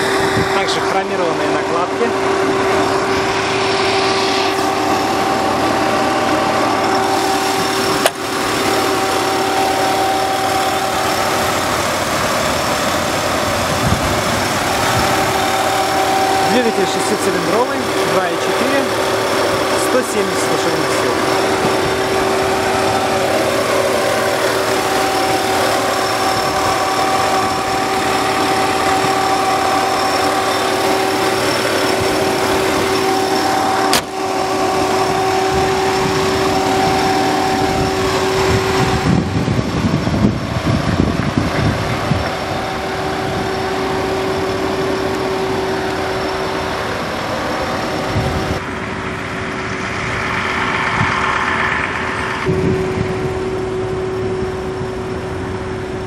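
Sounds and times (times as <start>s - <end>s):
engine idling with whine: 0.0s - 56.0s
uneven low rumbling: 0.0s - 56.0s.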